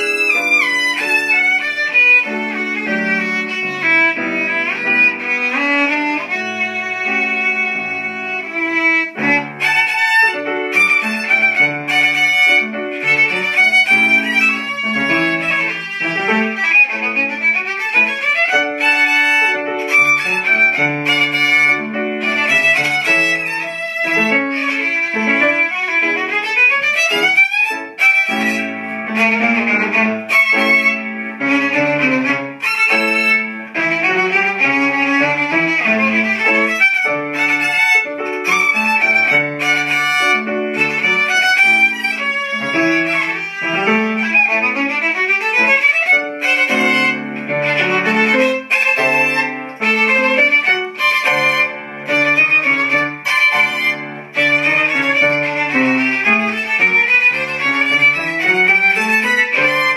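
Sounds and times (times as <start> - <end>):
fast lively violin: 0.0 - 59.9
upright piano: 0.0 - 59.9.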